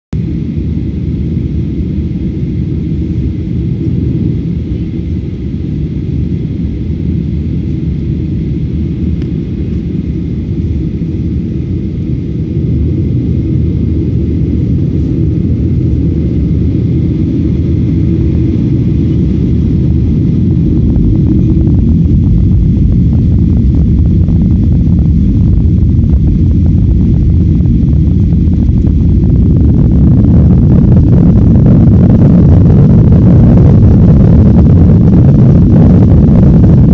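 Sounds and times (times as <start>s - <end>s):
airliner engines roaring: 0.2s - 36.9s.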